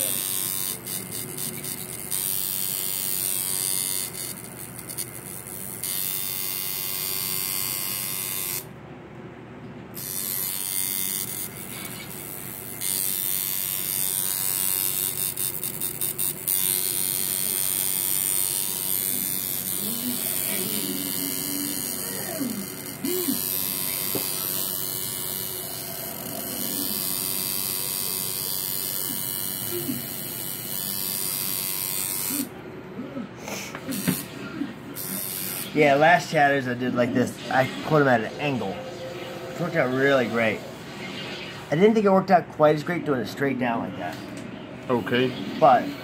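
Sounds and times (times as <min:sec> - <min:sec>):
tattoo machine buzzing: 0:00.0 - 0:08.7, 0:09.9 - 0:32.6, 0:33.4 - 0:41.9.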